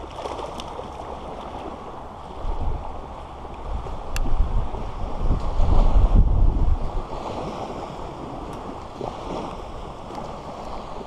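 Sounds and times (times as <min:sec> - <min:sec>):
small waves washing onto shore: 0:00.0 - 0:11.0
wind buffeting microphone: 0:00.0 - 0:11.0.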